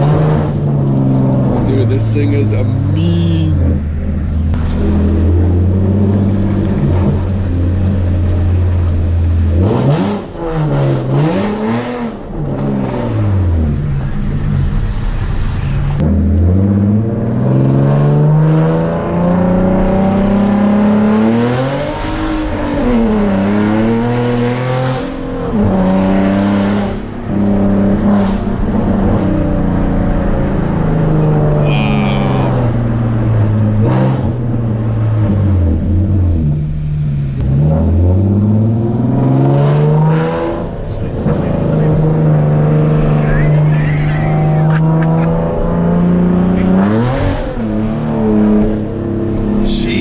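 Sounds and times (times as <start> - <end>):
loud car exhaust revving: 0.0 - 50.0.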